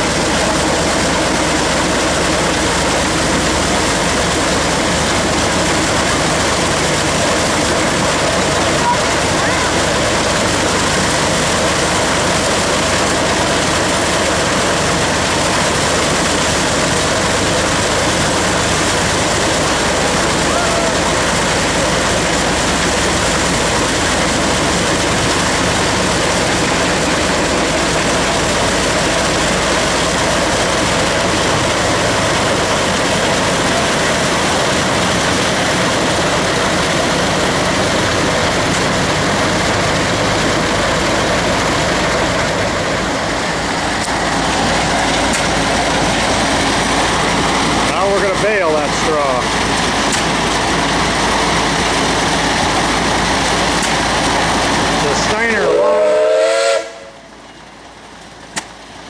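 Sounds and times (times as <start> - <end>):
threshing machine clattering: 0.0 - 55.7, 58.1 - 59.0.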